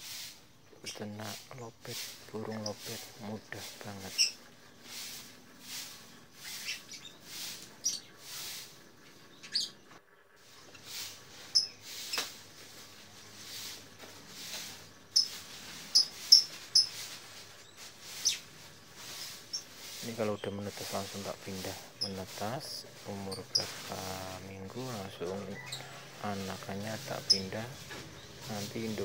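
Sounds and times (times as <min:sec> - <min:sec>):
lovebirds chirping: 0:00.0 - 0:29.0.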